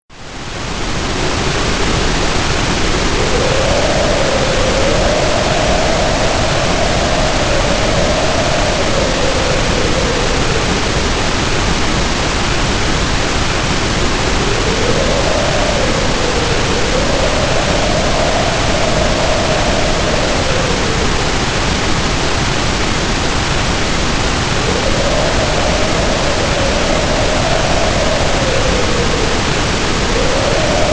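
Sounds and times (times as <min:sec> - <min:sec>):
steady rush of storm noise: 0:00.1 - 0:30.9.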